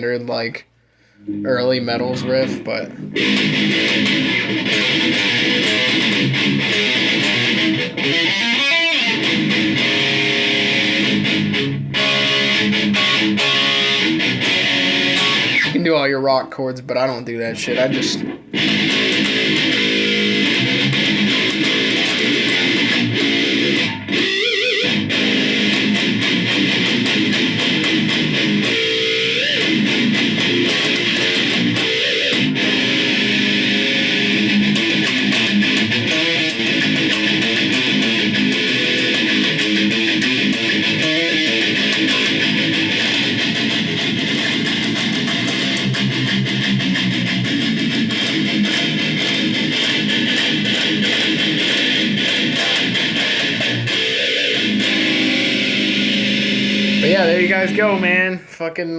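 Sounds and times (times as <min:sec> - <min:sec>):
distorted electric guitar riffing: 0:00.0 - 0:16.4, 0:17.0 - 0:58.5.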